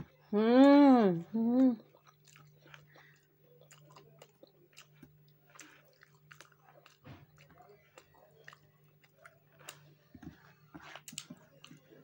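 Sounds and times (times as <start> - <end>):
low steady hum: 0.0 - 12.0
person chewing food: 1.5 - 12.0.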